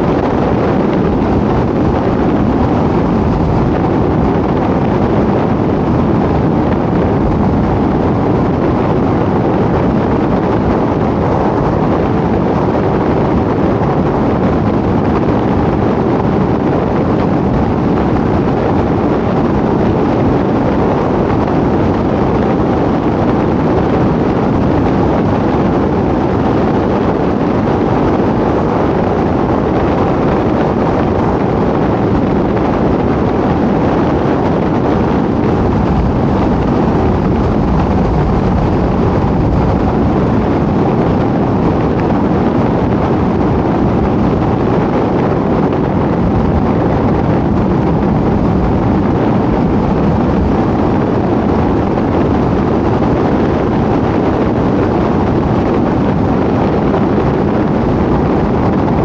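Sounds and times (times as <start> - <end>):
car road and wind noise: 0.0 - 59.0.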